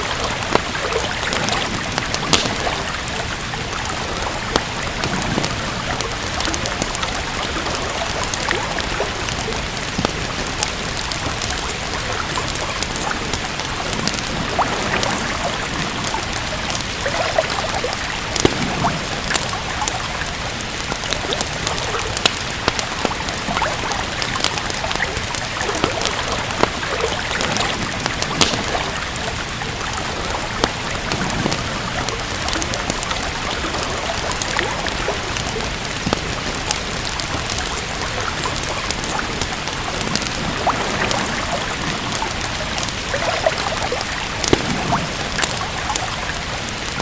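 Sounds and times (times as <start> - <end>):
steady rain: 0.0 - 47.0
wood fire crackling and popping: 0.0 - 47.0.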